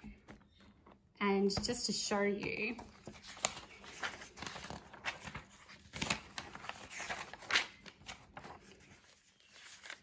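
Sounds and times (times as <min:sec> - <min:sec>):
paper pages rustling: 0:00.0 - 0:01.7, 0:02.5 - 0:10.0.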